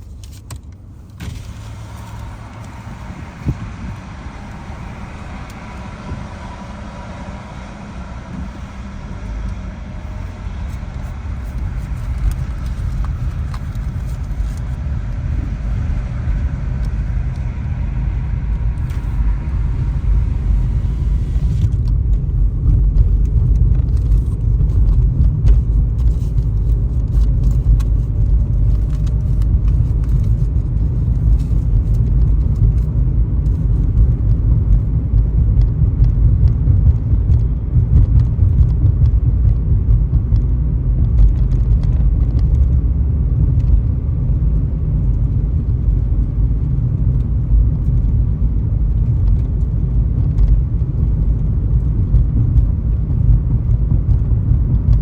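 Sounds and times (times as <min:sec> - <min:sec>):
car road noise rumble: 0:00.0 - 0:55.0.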